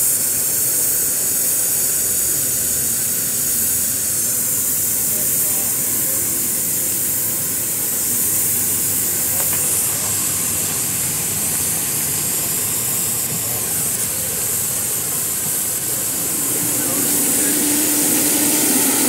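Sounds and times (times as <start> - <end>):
miniature train rumbling on track: 0.0 - 19.0
steam hissing: 0.0 - 19.0.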